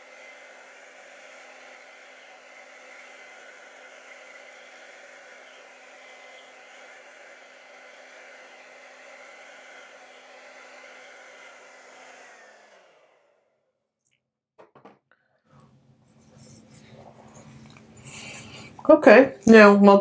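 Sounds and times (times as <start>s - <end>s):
hair dryer blowing: 0.0s - 13.6s, 15.5s - 20.0s.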